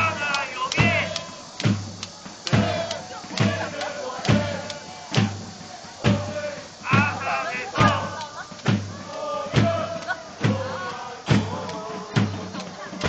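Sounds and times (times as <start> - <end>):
bass drum beats: 0.0 - 13.0
supporters singing a chant: 0.0 - 13.0.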